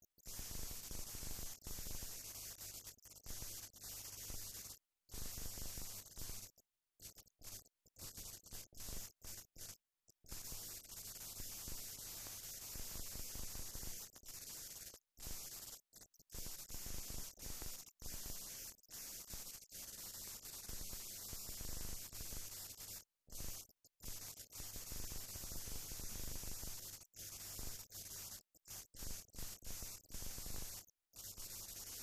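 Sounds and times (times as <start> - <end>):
film hiss and crackle: 0.2 - 32.0.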